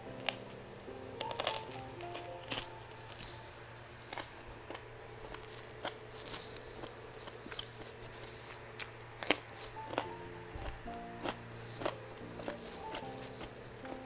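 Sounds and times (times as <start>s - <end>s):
wet chewing and lip smacking: 0.0s - 13.6s
cucumber crunch: 0.1s - 14.0s.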